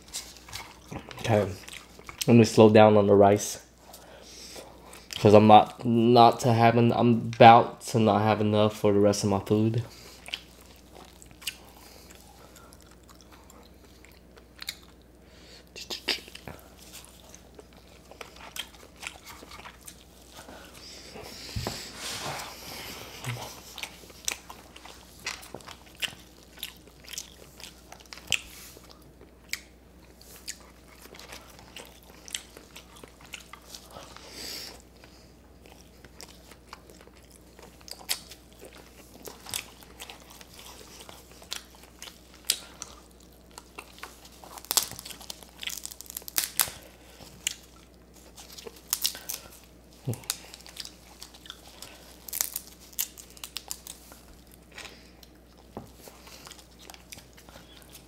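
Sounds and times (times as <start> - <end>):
person chewing crunchy food: 0.0 - 2.3, 9.9 - 58.0.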